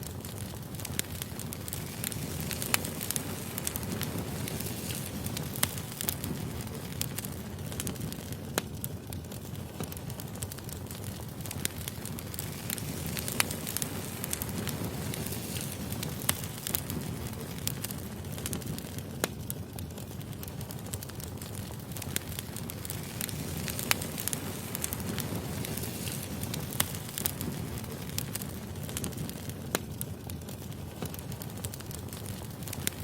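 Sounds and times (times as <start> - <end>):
firewood crackling and popping: 0.0 - 33.0
low rumble of flames: 0.0 - 33.0.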